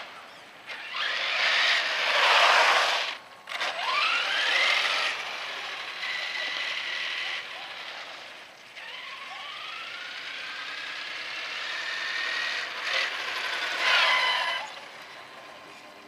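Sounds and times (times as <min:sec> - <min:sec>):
toy truck motor whining: 0:00.7 - 0:15.9.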